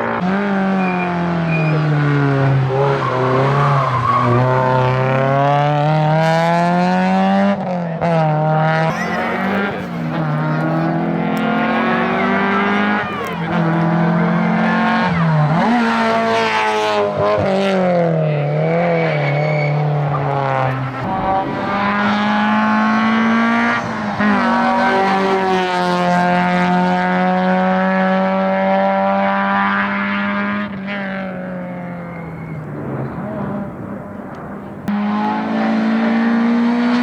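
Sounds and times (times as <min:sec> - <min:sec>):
car engine running hard: 0:00.0 - 0:37.0.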